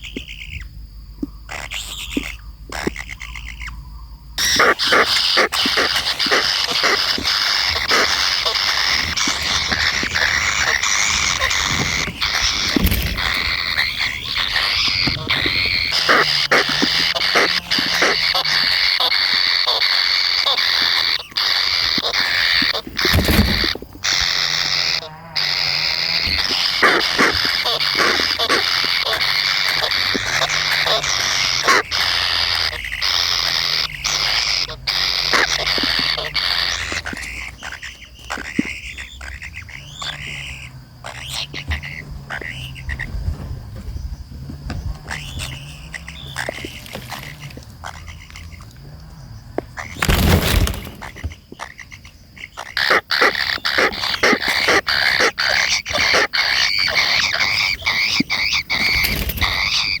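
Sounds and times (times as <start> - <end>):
kingfisher calling: 1.3 - 43.2, 45.0 - 48.7, 49.8 - 60.0.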